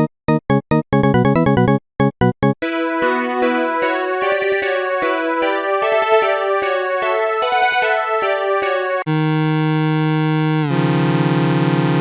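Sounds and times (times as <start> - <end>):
electronic video game music: 0.0 - 12.0.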